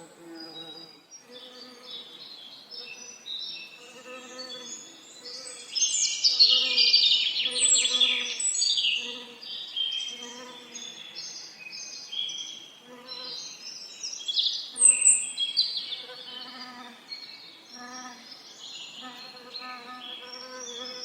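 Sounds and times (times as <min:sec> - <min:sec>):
faint low buzzing of bees: 0:00.0 - 0:21.0
songbirds singing: 0:00.0 - 0:21.0.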